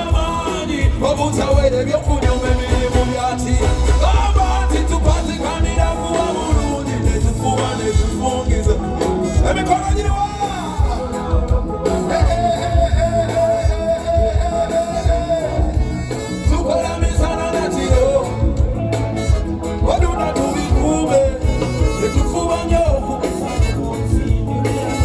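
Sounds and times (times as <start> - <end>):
band music: 0.0 - 25.0
drum beat: 0.0 - 25.0
person singing: 0.0 - 25.0.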